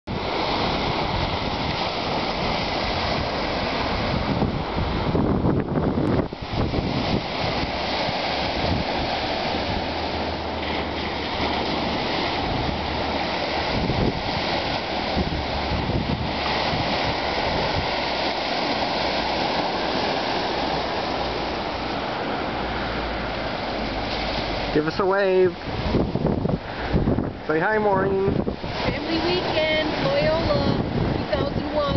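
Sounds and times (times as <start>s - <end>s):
wind rumbling on microphone: 0.0s - 31.9s
waves lapping on rocky shore: 0.1s - 31.9s.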